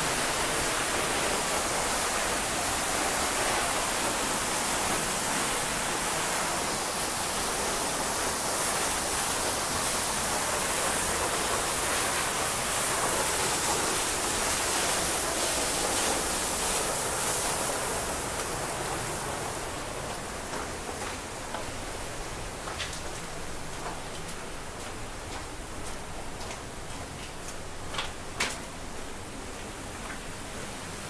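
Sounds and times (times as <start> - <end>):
waterfall pouring and splashing: 0.0 - 31.0.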